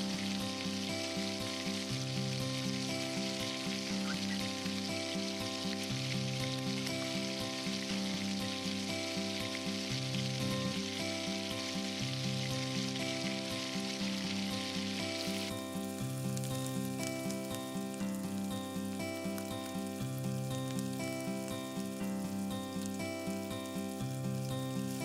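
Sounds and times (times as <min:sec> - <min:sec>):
chicken sizzling in a pot: 0:00.0 - 0:25.0.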